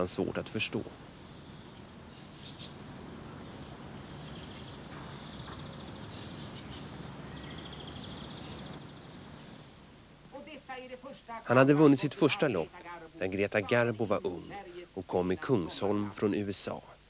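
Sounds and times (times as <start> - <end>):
birds chirping: 0.0 - 16.4
low steady hum: 0.0 - 17.0.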